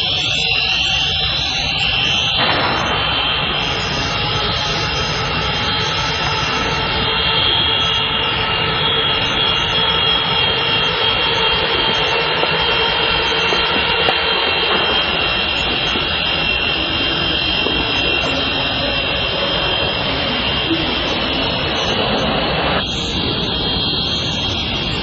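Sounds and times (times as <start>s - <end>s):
buzzing rotors: 0.0s - 25.0s
toy helicopter motors whining: 0.0s - 25.0s.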